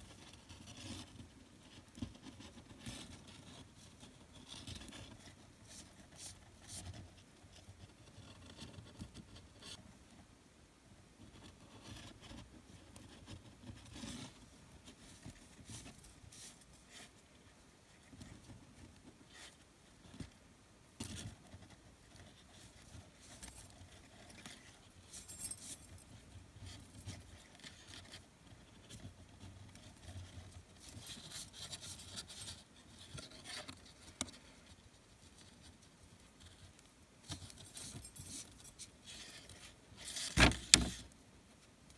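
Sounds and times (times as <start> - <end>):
cord rustling and scraping: 0.0 - 9.8, 11.3 - 20.4, 21.0 - 41.2.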